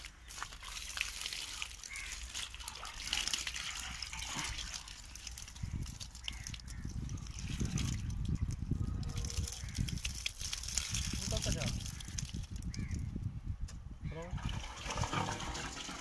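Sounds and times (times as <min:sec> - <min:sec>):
water splashing onto soil: 0:00.0 - 0:13.1
water pouring into metal pipe: 0:00.3 - 0:13.0, 0:14.3 - 0:16.0.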